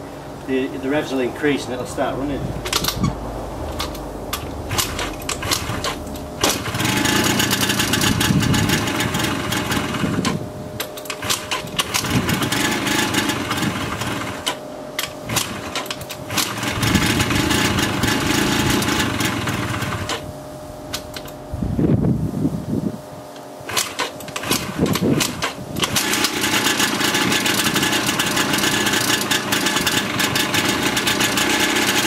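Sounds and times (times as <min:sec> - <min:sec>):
scooter engine revving unevenly: 0:00.7 - 0:14.6, 0:15.2 - 0:20.3, 0:23.7 - 0:32.0.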